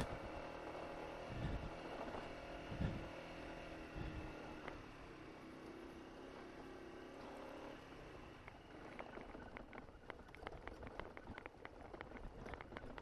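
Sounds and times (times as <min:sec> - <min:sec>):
scooter engine humming: 0:00.0 - 0:13.0.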